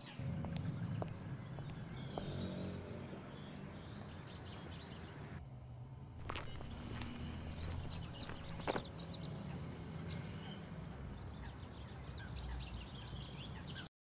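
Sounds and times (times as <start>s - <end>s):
small birds chirping: 0.0s - 5.4s, 6.2s - 13.9s
street traffic hum: 0.0s - 13.9s.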